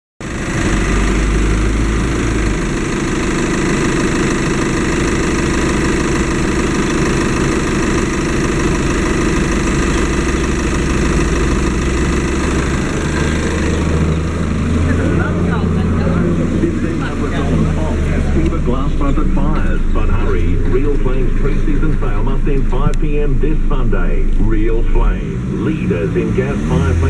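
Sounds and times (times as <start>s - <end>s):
diesel engine idling: 0.2s - 27.0s.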